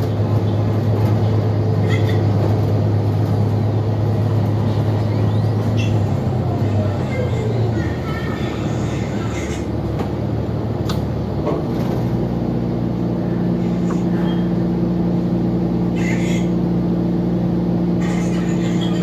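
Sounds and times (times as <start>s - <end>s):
bus running inside cabin: 0.0s - 19.0s
multi-pitched drivetrain hum: 0.0s - 19.0s.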